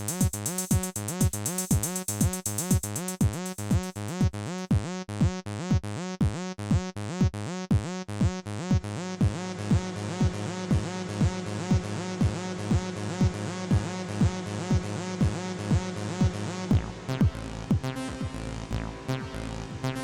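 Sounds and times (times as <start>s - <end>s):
fast hi-hat pattern: 0.0s - 4.9s, 7.7s - 20.0s
four-on-the-floor kick drum: 0.0s - 20.0s
repeating synth bass line: 0.0s - 20.0s.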